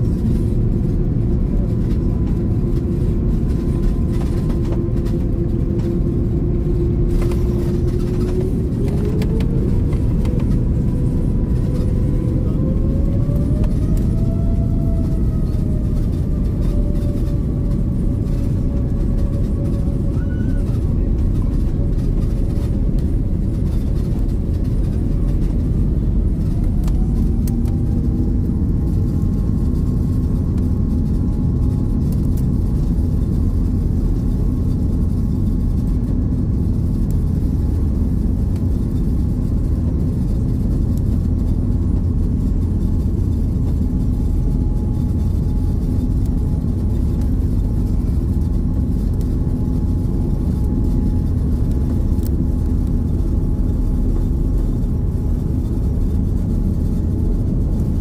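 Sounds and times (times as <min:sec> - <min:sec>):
aircraft cabin rumble: 0:00.0 - 0:58.0
jet engine whine: 0:00.0 - 0:58.0.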